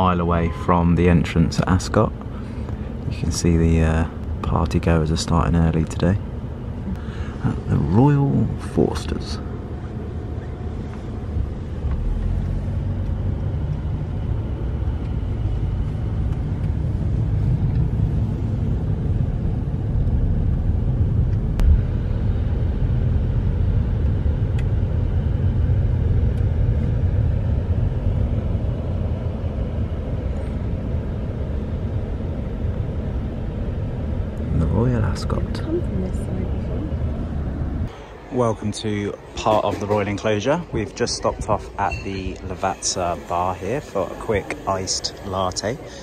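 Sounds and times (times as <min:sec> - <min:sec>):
car driving rumble: 0:00.0 - 0:46.0.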